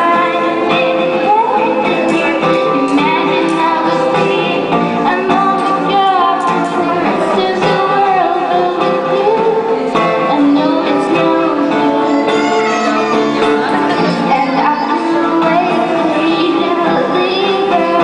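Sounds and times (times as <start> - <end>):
acoustic guitar strumming: 0.0 - 18.0
woman singing: 0.0 - 18.0.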